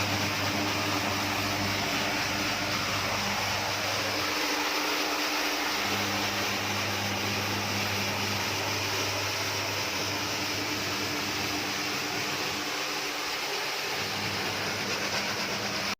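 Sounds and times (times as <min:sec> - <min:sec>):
low motor hum: 0:00.0 - 0:15.9.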